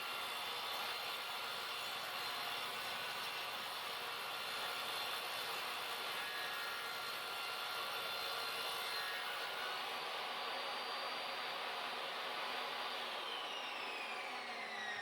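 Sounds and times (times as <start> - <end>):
table saw cutting wood: 0.0 - 15.0.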